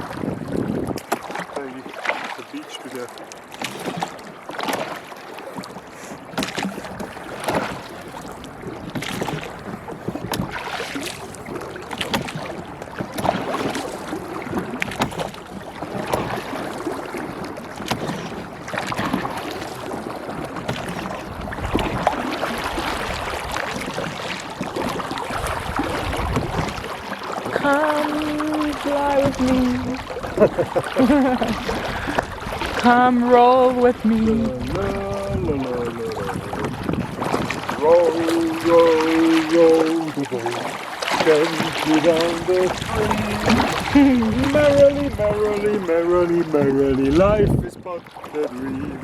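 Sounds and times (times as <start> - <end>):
oars splashing in water: 0.0 - 49.0
water lapping against hull: 0.0 - 49.0.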